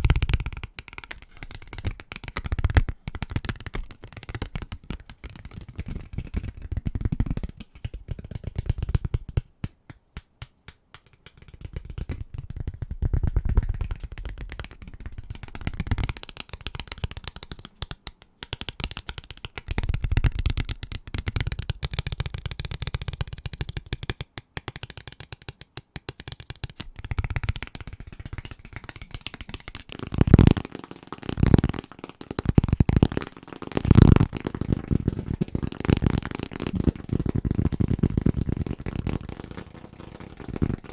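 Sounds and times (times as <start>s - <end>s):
fingernail tapping on objects: 0.0s - 40.9s.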